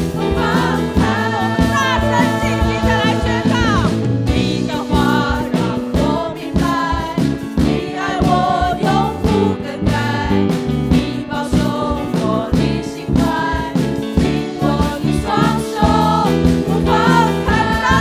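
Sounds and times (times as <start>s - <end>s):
amplified band accompaniment: 0.0s - 18.0s
singers singing together: 0.0s - 18.0s.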